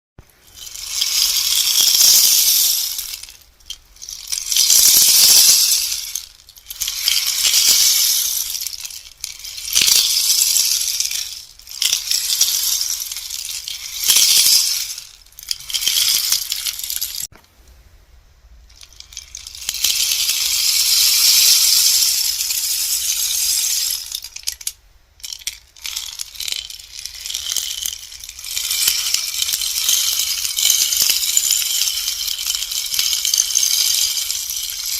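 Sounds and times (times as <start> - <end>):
rainstick rattling hiss: 0.3 - 17.3, 18.7 - 34.9.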